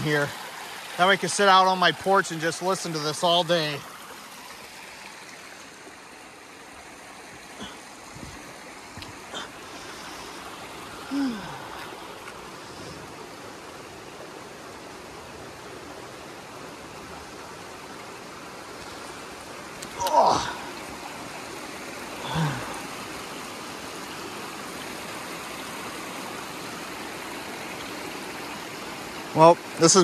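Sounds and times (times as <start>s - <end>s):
water cascading over rocks: 0.0s - 30.0s.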